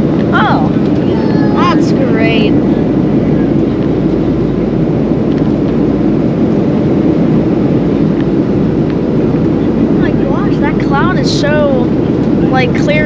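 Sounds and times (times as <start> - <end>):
jet engine cabin drone: 0.0 - 13.0.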